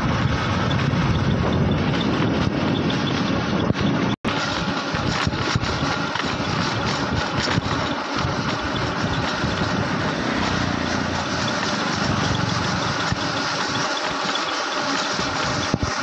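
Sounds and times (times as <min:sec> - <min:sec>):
small vehicle engine droning: 0:00.0 - 0:15.8.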